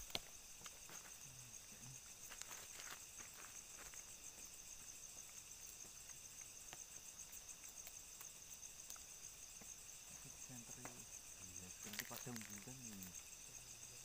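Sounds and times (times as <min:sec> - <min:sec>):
insect chorus trilling: 0:00.0 - 0:14.0.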